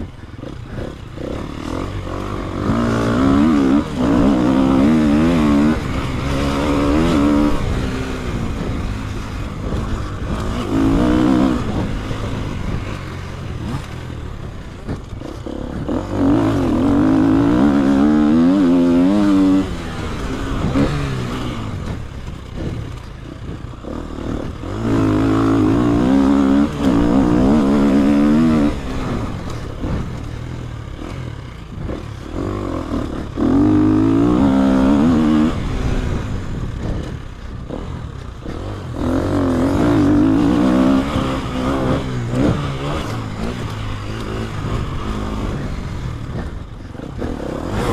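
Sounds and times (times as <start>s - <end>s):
motorcycle engine revving through gears: 0.0s - 47.9s.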